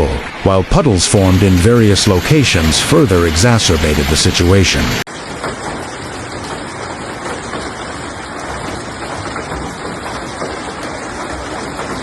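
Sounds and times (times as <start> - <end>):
hail and heavy rain pelting: 0.1 - 12.0.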